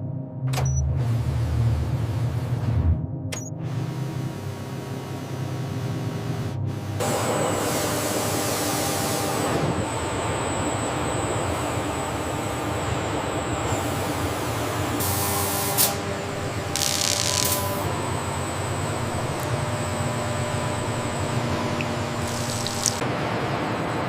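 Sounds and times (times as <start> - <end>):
factory machinery rumble and whine: 0.0 - 24.0.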